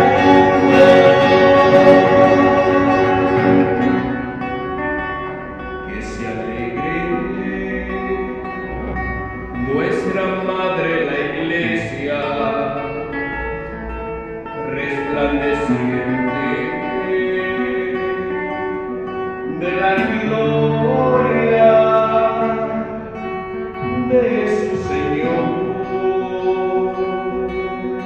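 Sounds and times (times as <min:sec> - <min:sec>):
person singing: 0:00.0 - 0:13.8, 0:14.6 - 0:18.5, 0:19.4 - 0:28.0
guitar: 0:00.0 - 0:28.0.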